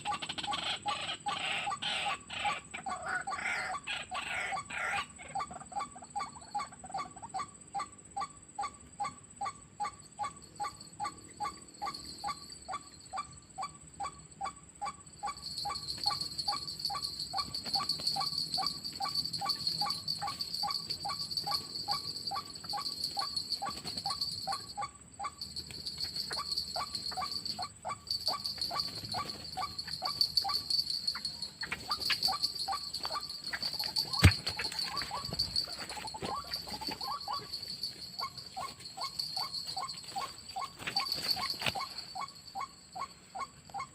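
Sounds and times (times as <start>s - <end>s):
high-pitched insect drone: 8.6s - 43.9s.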